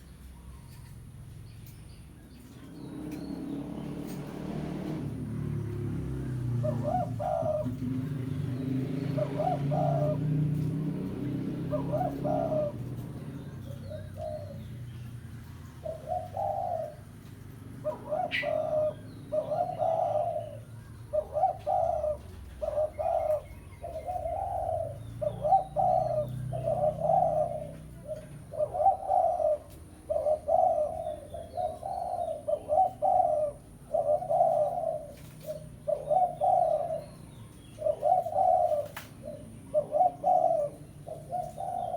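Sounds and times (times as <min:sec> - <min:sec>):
dove cooing: 0:02.4 - 0:41.9.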